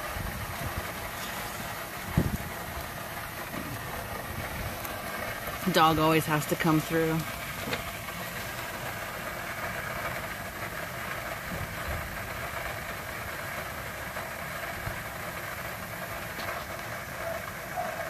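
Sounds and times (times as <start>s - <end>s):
water draining through hose: 0.0s - 17.9s.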